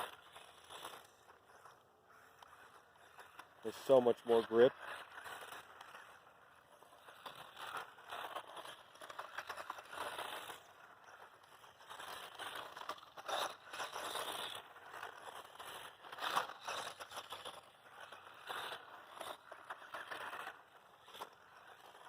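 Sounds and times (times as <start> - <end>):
toy truck tires on dirt: 0.0 - 22.0.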